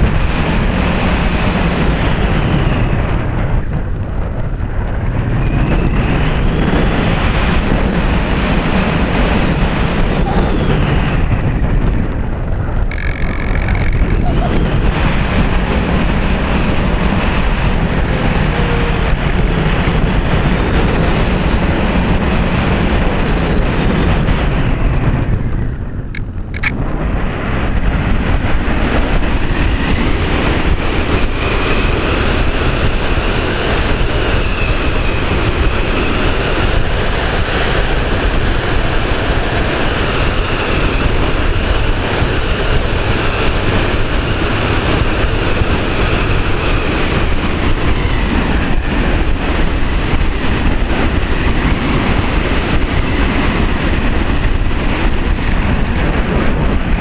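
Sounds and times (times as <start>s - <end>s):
wind buffeting camera: 0.0s - 57.0s.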